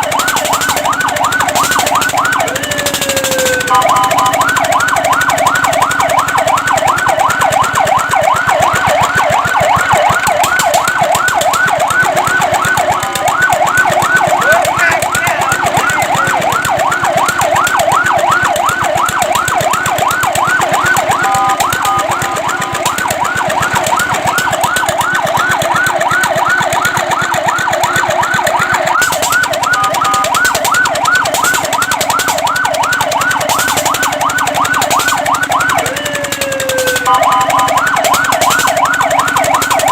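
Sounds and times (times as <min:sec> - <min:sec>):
fire truck siren yelping: 0:00.0 - 0:39.9
two-note siren tone: 0:00.0 - 0:39.9.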